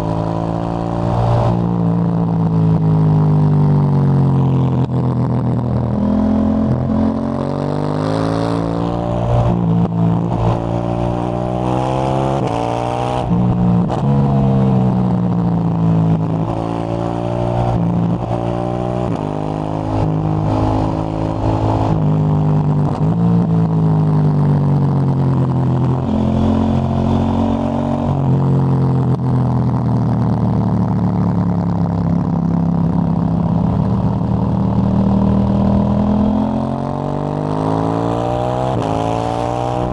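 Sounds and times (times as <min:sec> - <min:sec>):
motorcycle engine revving: 0:00.0 - 0:23.2, 0:24.8 - 0:39.9.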